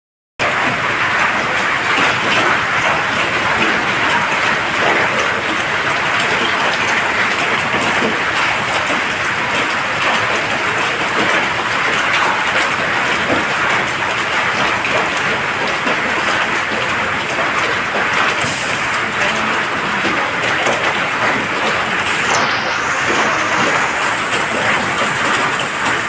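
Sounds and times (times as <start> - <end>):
heavy rain falling: 0.4 - 26.0.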